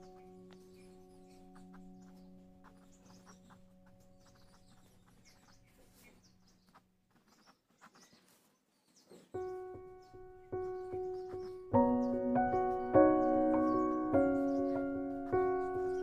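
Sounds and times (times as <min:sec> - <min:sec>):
soft piano music: 0:00.0 - 0:07.4, 0:08.8 - 0:16.0.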